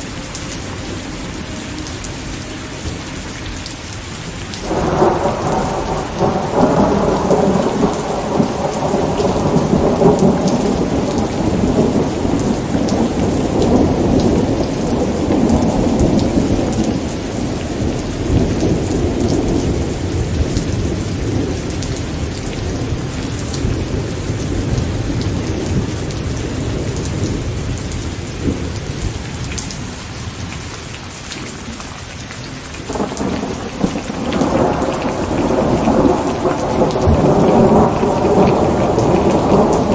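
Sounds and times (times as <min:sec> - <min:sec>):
thunder rumbling: 0:00.0 - 0:30.6, 0:32.8 - 0:39.9
steady rain: 0:00.0 - 0:39.9.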